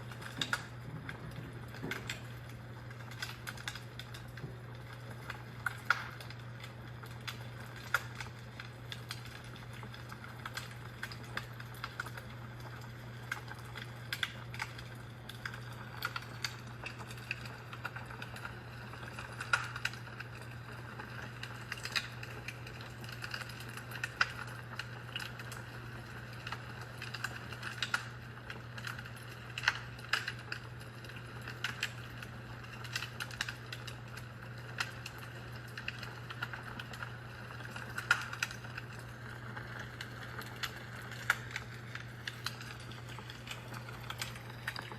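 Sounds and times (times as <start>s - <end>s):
fire crackling: 0.0s - 44.9s
steady low hum: 0.0s - 44.9s.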